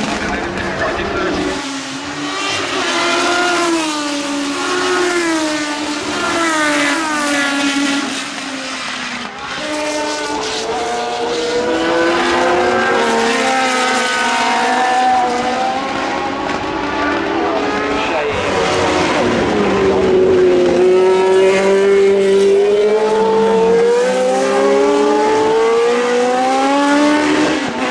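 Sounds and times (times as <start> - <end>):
racing car engines revving past: 0.0 - 27.9.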